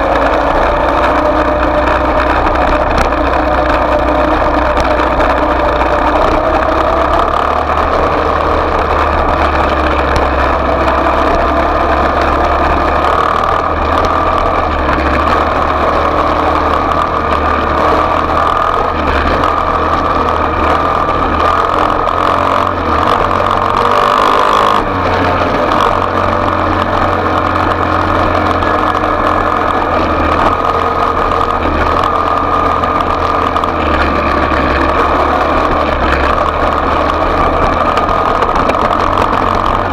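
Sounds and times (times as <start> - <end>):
small motorbike engine running: 0.0 - 39.9.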